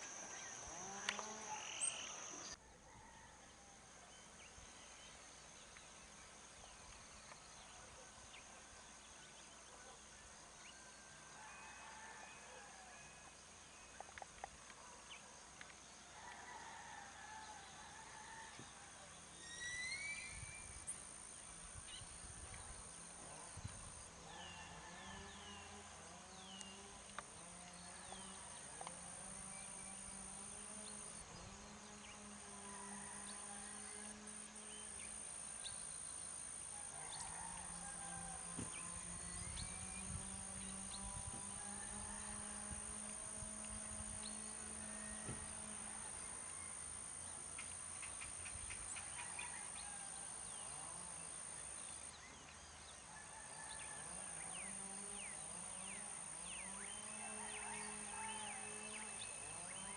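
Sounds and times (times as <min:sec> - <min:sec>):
steady high-pitched whine: 0:00.0 - 0:59.9.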